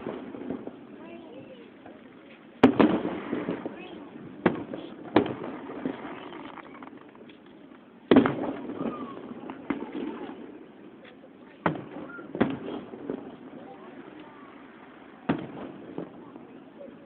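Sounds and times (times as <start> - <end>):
fireworks booming: 0.0 - 17.0
fireworks crackling: 0.0 - 17.0.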